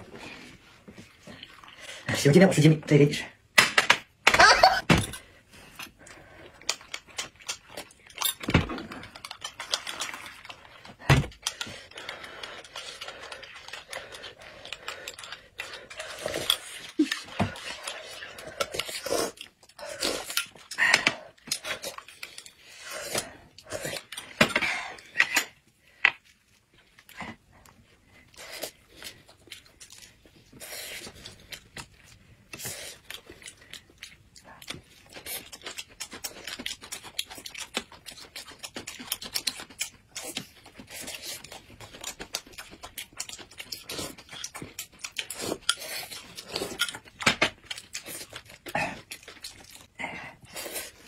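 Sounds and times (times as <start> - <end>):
chewing: 5.6 - 25.6, 26.2 - 51.0.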